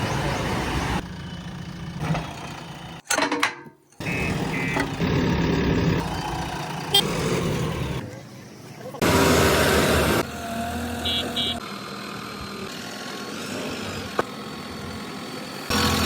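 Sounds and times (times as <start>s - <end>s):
heavy vehicle engine running: 0.0s - 3.0s, 4.0s - 8.2s, 9.0s - 16.0s.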